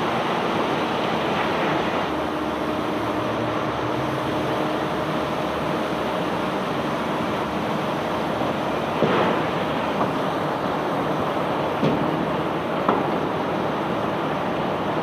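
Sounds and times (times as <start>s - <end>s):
barge unloading cobblestones: 0.0s - 15.0s.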